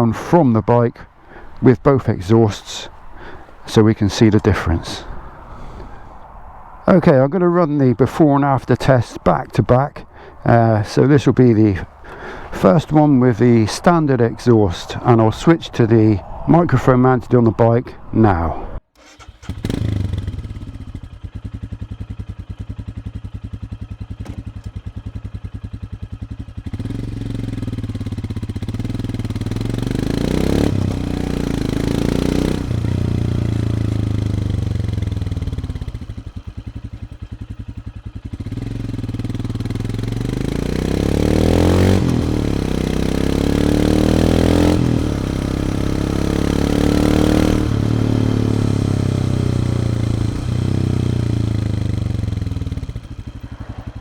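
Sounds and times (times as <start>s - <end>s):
motorcycle engine accelerating: 1.2s - 6.7s, 10.1s - 54.0s.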